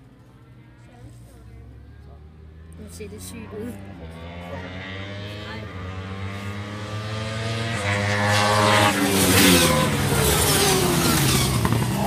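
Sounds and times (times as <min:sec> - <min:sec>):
racing motorcycles passing: 0:01.6 - 0:12.0.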